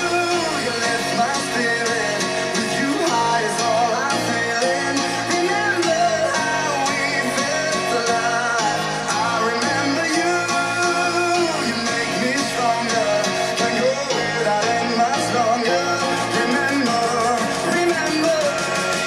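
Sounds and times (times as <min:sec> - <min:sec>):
rock song over loudspeakers: 0:00.0 - 0:19.0.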